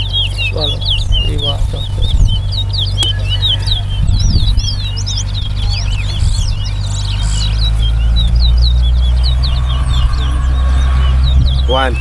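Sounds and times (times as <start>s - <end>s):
finches singing whistled notes: 0.0s - 12.0s
low steady rumble: 0.0s - 12.0s.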